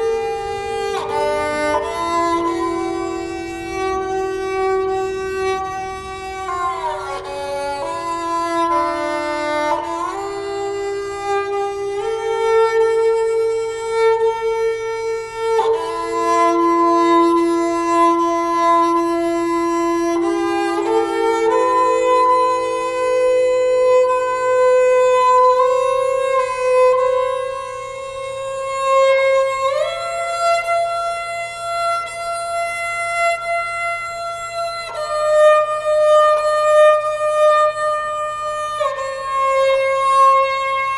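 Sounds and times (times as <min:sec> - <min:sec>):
slow violin-like instrumental music: 0:00.0 - 0:40.9.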